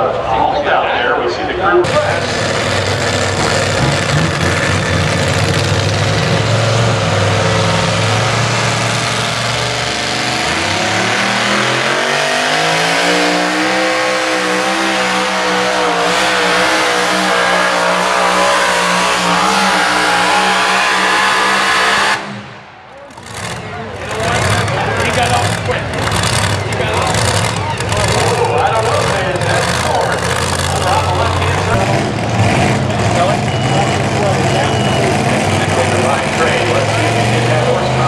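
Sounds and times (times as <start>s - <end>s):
truck engine at full throttle: 1.6s - 38.0s.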